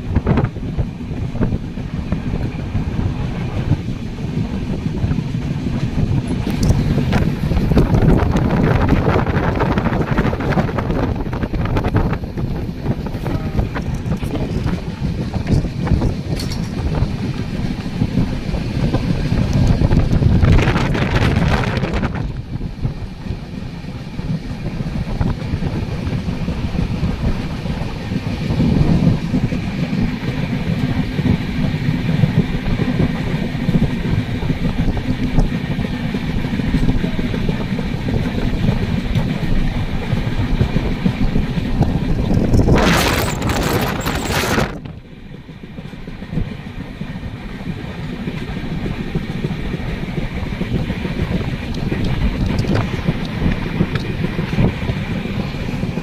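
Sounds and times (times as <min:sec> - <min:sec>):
rushing air: 0:00.0 - 0:56.0
train wheels rumbling on rail: 0:00.0 - 0:56.0
wind buffeting microphone: 0:00.0 - 0:56.0.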